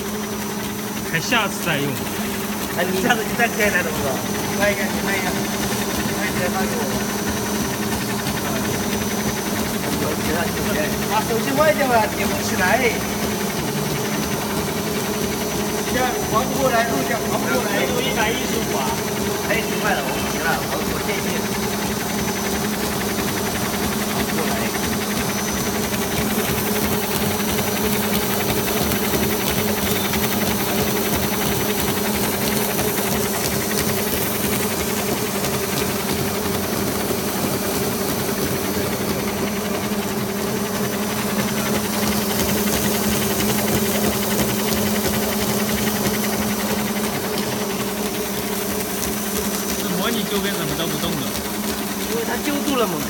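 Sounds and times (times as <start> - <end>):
film slitting machine humming: 0.0 - 53.0.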